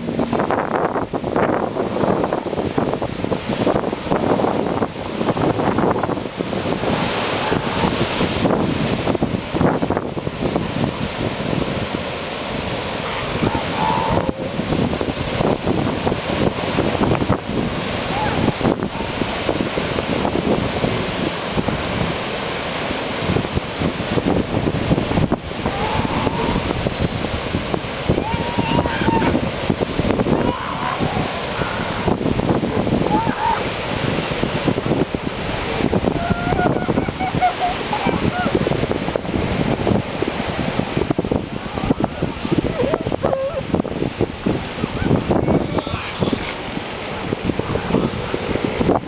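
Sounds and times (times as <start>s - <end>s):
ocean surf breaking: 0.0s - 49.0s
wind buffeting microphone: 0.0s - 49.0s.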